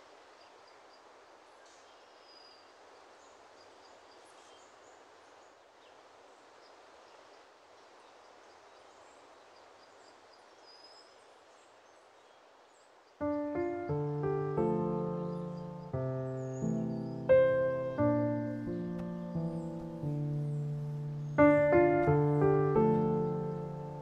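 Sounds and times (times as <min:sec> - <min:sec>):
faint ambient hiss: 0:00.0 - 0:24.0.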